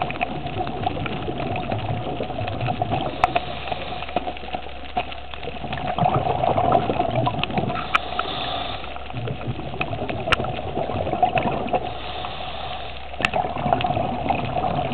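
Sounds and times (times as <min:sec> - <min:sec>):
underwater clicks and crackles: 0:00.0 - 0:14.9
underwater rushing hum: 0:00.0 - 0:14.9.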